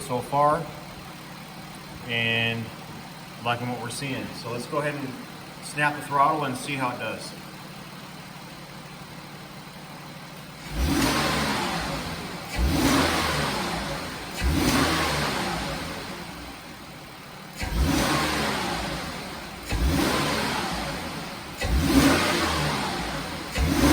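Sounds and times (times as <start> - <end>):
car engine idling and revving: 0.0 - 23.9.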